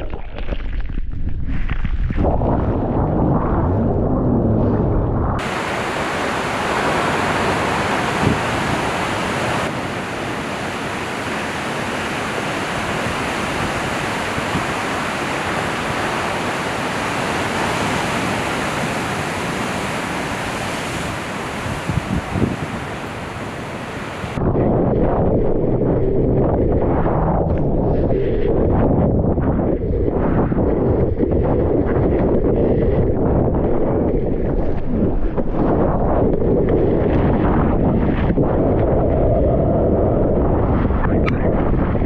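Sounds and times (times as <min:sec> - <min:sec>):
surf and wind on microphone: 0:02.1 - 0:42.0.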